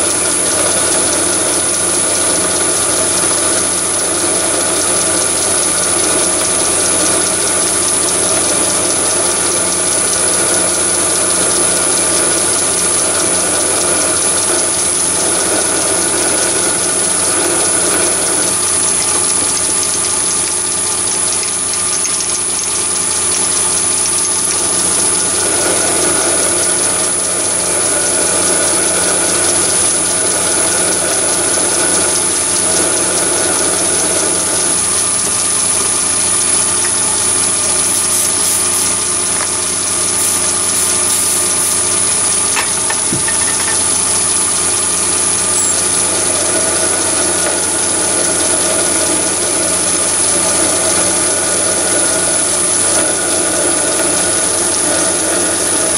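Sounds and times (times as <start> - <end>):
lathe drilling with hum and whine: 0.0 - 55.9.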